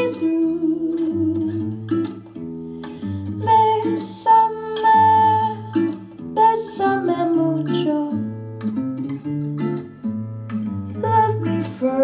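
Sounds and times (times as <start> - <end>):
guitar picking a melody: 0.0 - 12.0.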